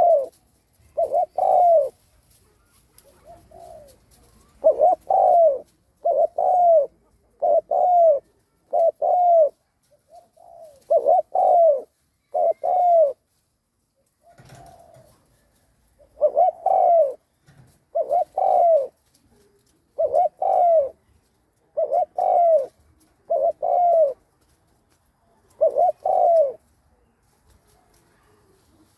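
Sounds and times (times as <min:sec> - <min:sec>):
dove cooing: 0:00.0 - 0:02.0, 0:02.6 - 0:13.2, 0:14.2 - 0:24.3, 0:25.4 - 0:27.1.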